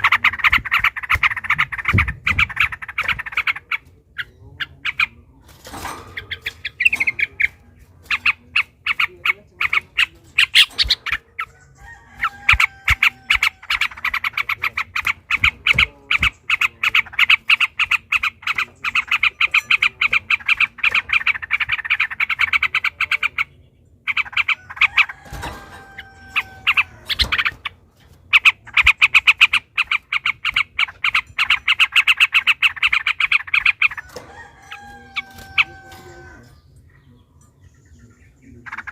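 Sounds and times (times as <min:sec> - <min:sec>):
birds chattering rolls: 0:00.0 - 0:38.9.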